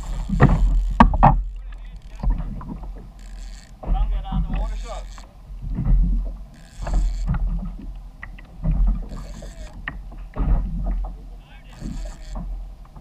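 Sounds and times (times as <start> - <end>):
water slapping against kayak hull: 0.0 - 13.0.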